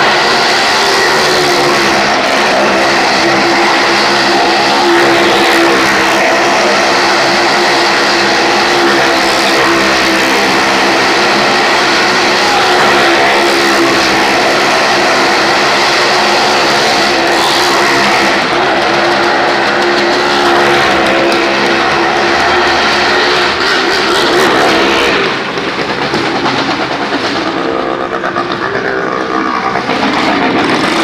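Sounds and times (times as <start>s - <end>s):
motorcycle engine at high revs: 0.0s - 31.0s.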